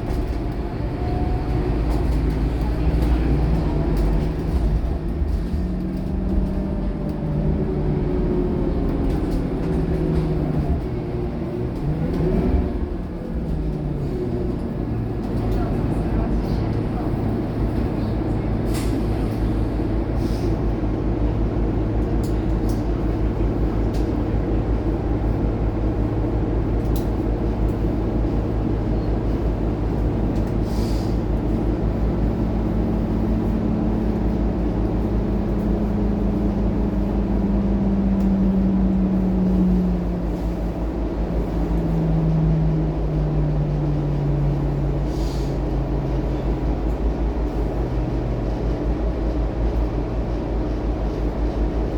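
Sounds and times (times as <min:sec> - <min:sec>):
bus diesel engine whining drone: 0:00.0 - 0:51.9.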